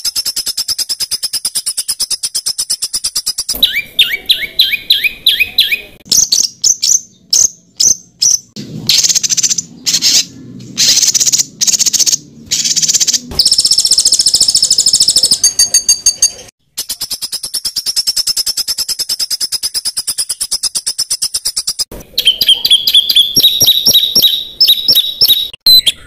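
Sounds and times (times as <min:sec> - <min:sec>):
ticking rattle bird call: 0:00.0 - 0:25.6
buzzy high-pitched bird trills: 0:00.0 - 0:26.0
sharp high bird chips: 0:00.0 - 0:26.0.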